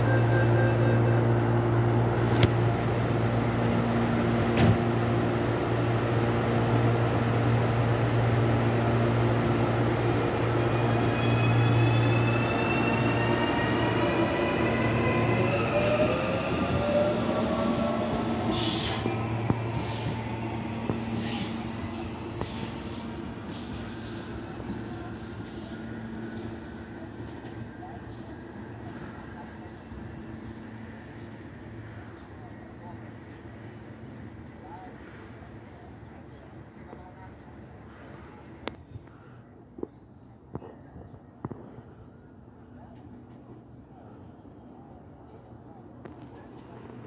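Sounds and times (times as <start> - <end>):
train electrical hum: 0.0 - 39.4.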